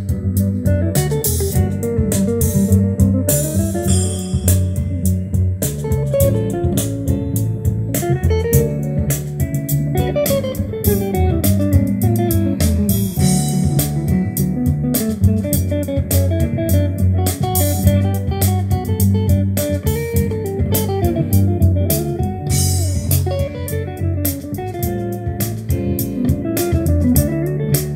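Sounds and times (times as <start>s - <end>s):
music with guitar and bass: 0.0s - 27.9s.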